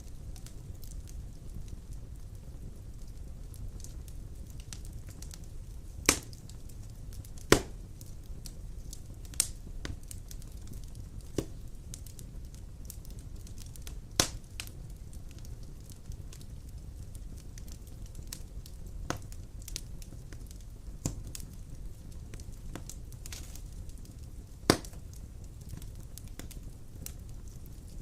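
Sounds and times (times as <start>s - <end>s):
fire flames rumbling: 0.0s - 28.0s
wood fire crackles and pops: 0.0s - 28.0s.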